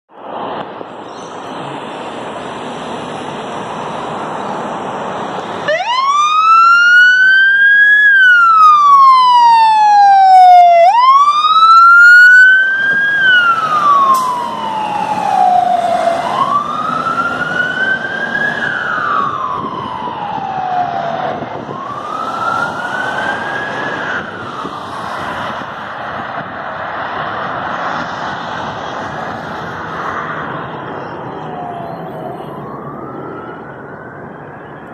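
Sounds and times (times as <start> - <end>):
fire truck siren wailing: 4.9 - 34.9.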